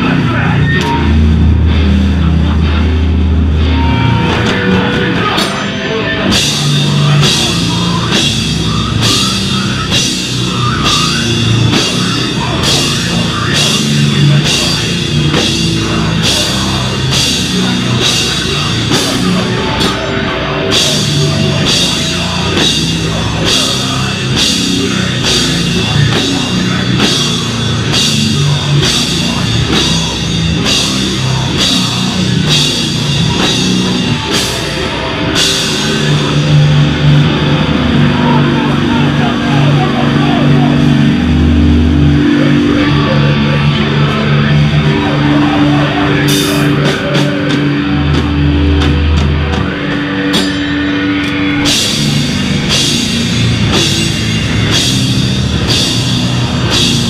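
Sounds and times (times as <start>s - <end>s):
distorted guitar and bass: 0.0s - 57.0s
drums with cymbal hits: 0.0s - 57.0s.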